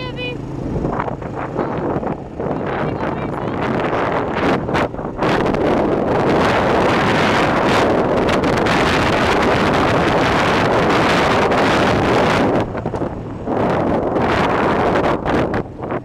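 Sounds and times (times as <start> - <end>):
vehicle running noise: 0.0 - 16.0
wind rushing over microphone: 0.0 - 16.0.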